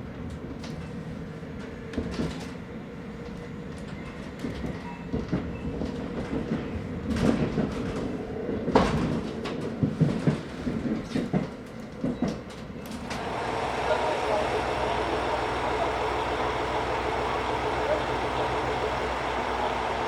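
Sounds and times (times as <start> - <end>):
railcar rumbling on rails: 0.0 - 20.0.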